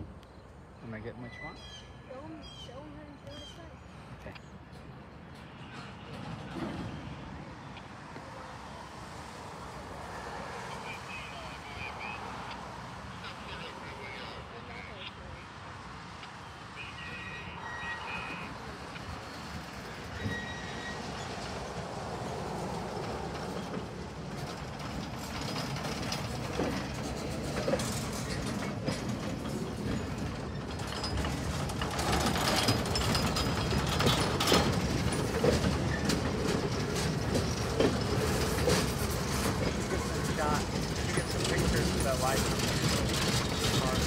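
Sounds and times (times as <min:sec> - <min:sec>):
train wheels rumbling and clicking: 0:04.3 - 0:15.2, 0:16.1 - 0:44.0.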